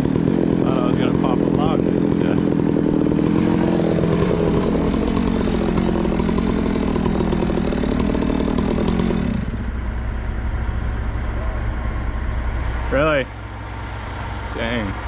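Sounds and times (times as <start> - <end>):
chainsaw running: 0.0 - 15.0.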